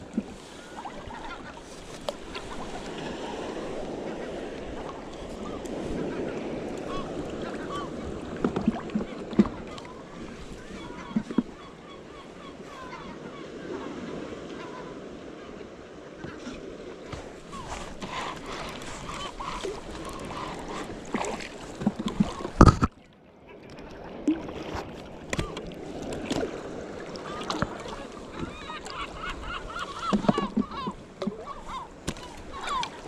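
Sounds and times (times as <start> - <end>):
water lapping and sloshing: 0.0 - 33.0.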